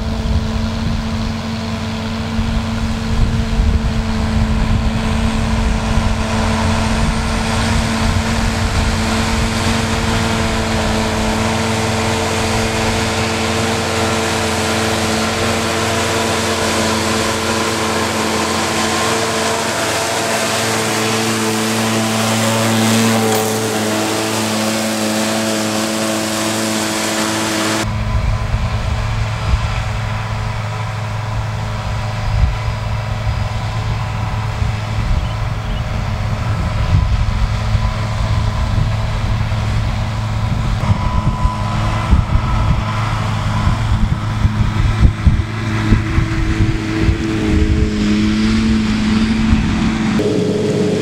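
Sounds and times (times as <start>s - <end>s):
mower hum: 0.0s - 51.0s
tractor engine running: 0.0s - 51.0s.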